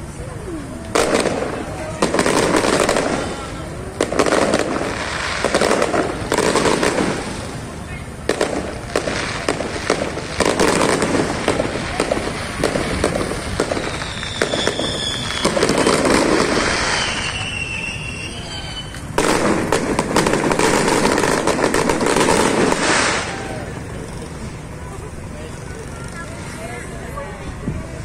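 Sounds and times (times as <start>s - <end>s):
fireworks crackling: 0.0s - 28.0s
fireworks popping: 0.0s - 28.0s
fireworks whistling: 0.0s - 28.0s.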